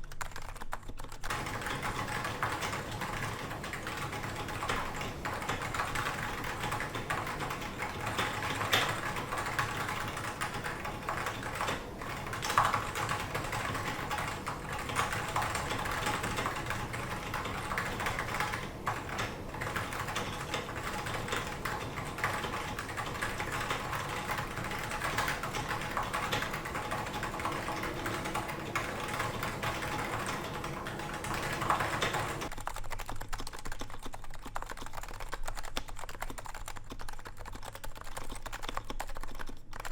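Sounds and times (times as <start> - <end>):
fast typing on a keyboard: 0.0 - 39.9.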